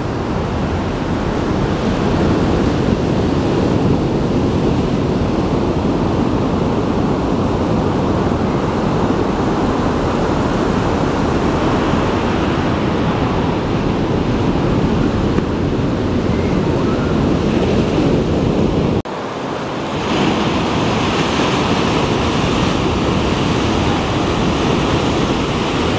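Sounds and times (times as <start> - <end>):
ocean waves breaking: 0.0 - 25.9
wind on microphone: 0.0 - 25.9.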